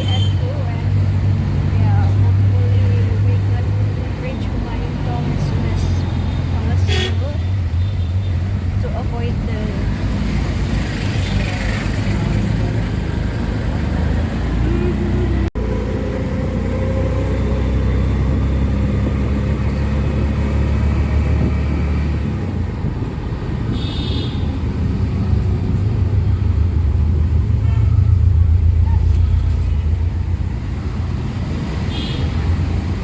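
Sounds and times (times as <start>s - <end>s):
engine rumble: 0.0s - 33.0s
road noise: 0.0s - 33.0s.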